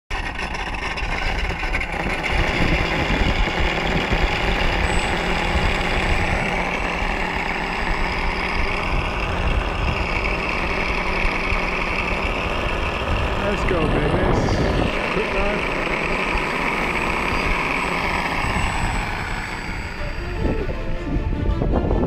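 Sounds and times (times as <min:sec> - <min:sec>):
wind buffeting microphone: 0:00.6 - 0:22.0.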